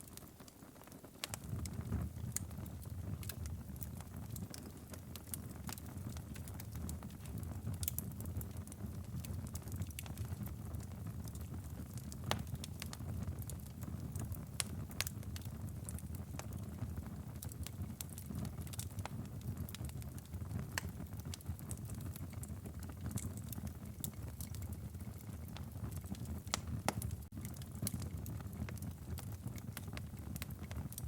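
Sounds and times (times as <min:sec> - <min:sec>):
firewood crackling and popping: 0:00.0 - 0:31.0
low rumble of flames: 0:00.1 - 0:31.0.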